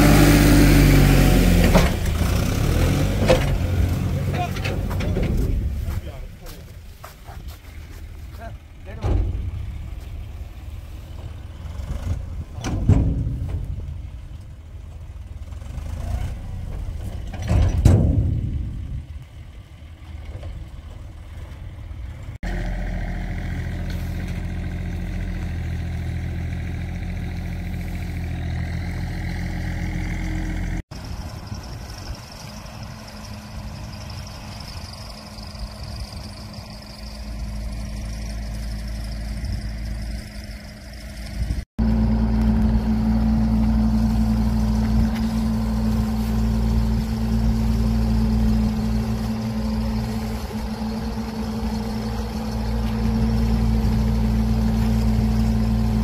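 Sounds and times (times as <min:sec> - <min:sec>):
dump truck engine rumbling: 0:00.0 - 0:56.0
excavator engine running: 0:00.0 - 0:56.0.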